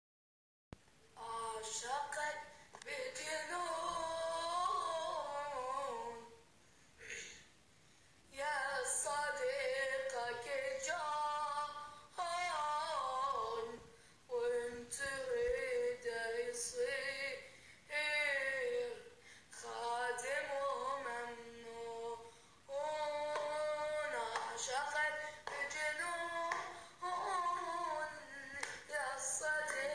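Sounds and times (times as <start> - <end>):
high young voice singing: 1.2 - 6.4, 8.3 - 29.9.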